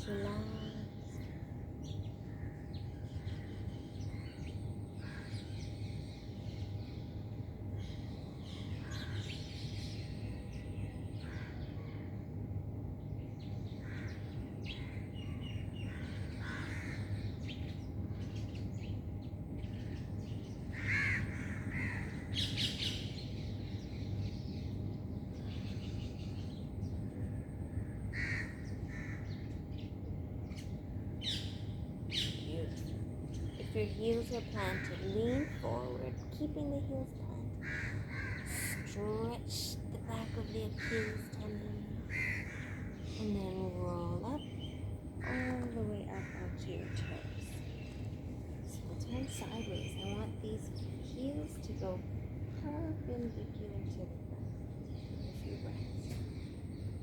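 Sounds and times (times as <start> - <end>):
birds calling and chirping: 0.0 - 57.0
steady low hum: 0.0 - 57.0.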